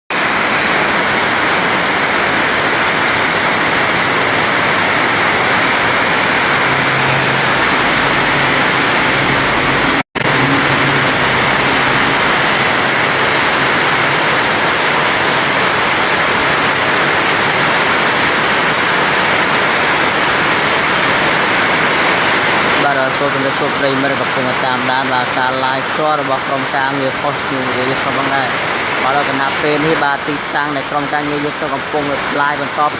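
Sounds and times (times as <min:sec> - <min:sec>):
heavy pouring rain: 0:00.1 - 0:32.9.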